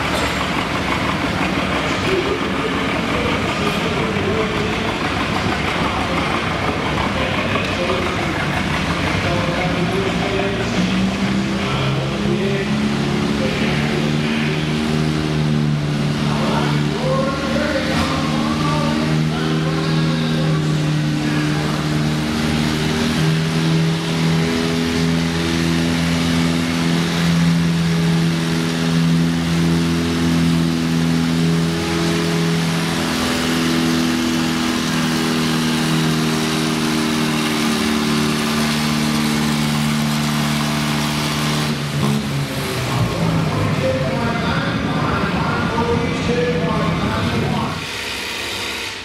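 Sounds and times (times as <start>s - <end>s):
tractor engine running under load: 0.0s - 49.0s.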